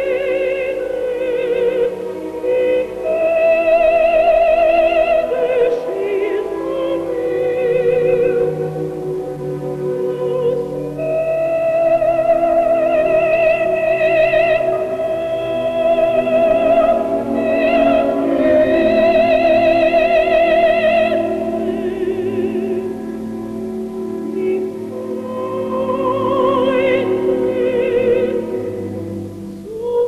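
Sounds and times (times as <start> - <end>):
orchestral accompaniment: 0.0 - 29.9
operatic soprano singing: 0.0 - 30.0.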